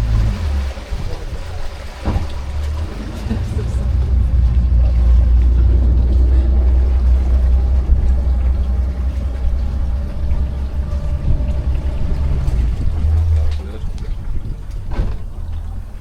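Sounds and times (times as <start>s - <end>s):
boat engine low drone: 0.0s - 16.0s.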